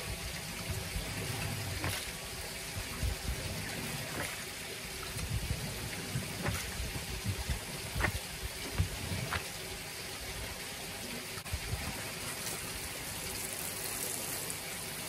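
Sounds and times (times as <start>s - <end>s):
brush scrubbing a wet doormat: 0.1s - 10.4s, 11.6s - 15.0s.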